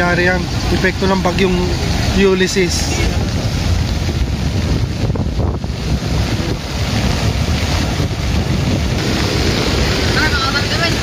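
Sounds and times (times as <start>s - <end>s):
floodwater rushing: 0.0s - 11.0s
wind buffeting microphone: 0.0s - 11.0s.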